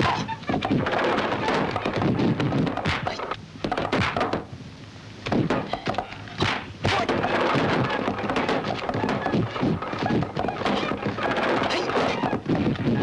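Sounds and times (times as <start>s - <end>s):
wooden thunks and knocks: 0.0s - 4.5s, 5.3s - 13.0s.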